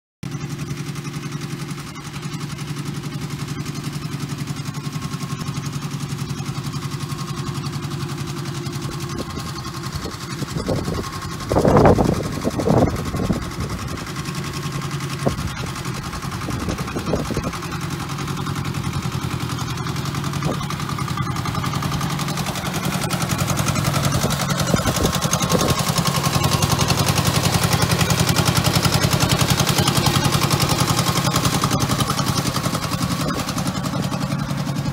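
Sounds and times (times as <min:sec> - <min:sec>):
small tractor engine running: 0:00.2 - 0:34.9
loud engine bursts: 0:00.3 - 0:34.9.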